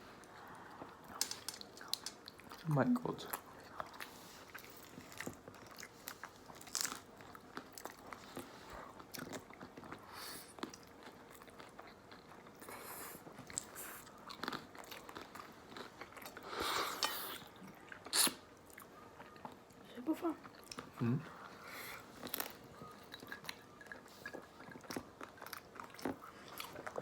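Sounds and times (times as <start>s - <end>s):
pizza chewing and crunching: 0.1s - 19.8s, 20.4s - 27.0s.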